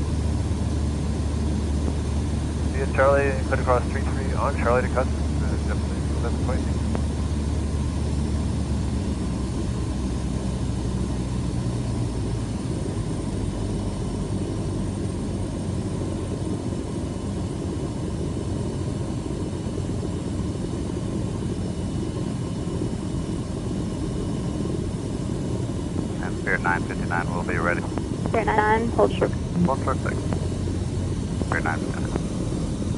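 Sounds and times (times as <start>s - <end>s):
piston engine and propeller droning: 0.0s - 32.9s.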